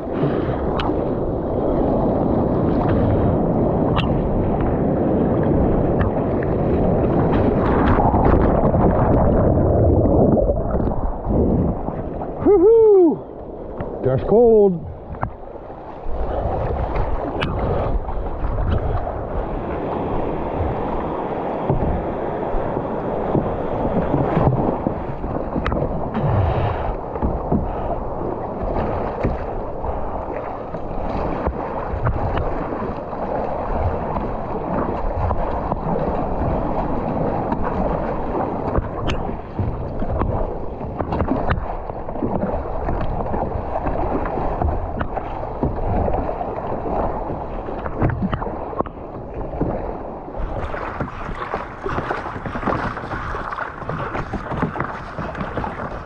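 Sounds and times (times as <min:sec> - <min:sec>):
water splashing against a kayak: 0:00.0 - 0:56.0
wind rumbling on microphone: 0:00.0 - 0:56.0.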